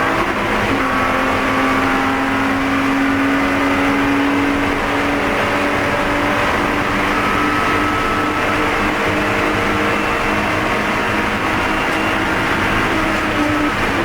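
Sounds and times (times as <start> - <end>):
race car engine: 0.0 - 14.0
road and wind noise: 0.0 - 14.0.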